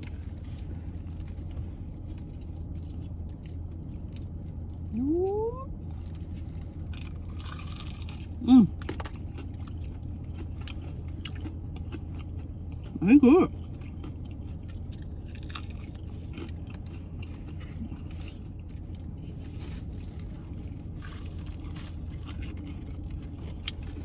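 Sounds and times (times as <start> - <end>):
car air conditioner hum: 0.0 - 24.0.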